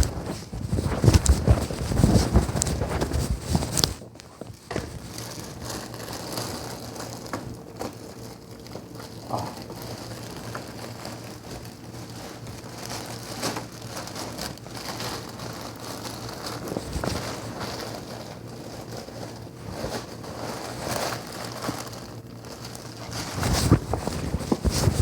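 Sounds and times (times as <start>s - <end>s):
small rustles and clicks: 0.0s - 25.0s.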